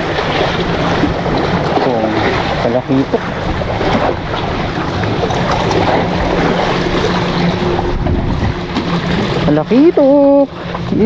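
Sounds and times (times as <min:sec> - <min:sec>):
waves washing against rocks: 0:00.0 - 0:11.0
wind buffeting microphone: 0:00.0 - 0:11.0.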